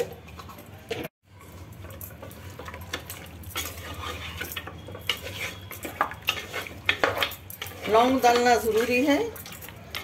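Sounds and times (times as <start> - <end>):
spatula scraping a pot: 1.8 - 10.0.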